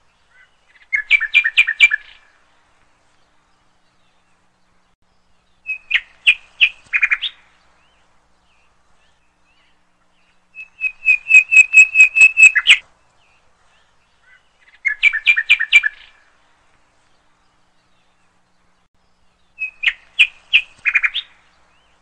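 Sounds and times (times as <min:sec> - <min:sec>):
small songbird chirping: 0:00.0 - 0:22.0.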